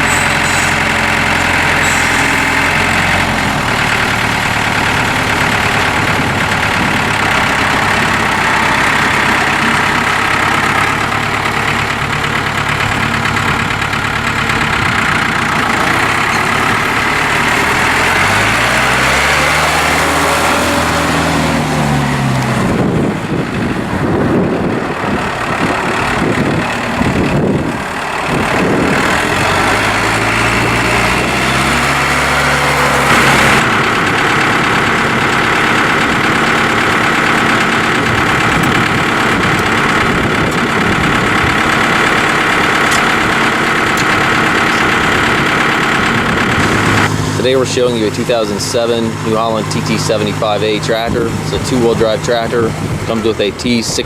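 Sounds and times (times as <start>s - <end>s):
tractor diesel engine idling and revving: 0.0s - 54.0s.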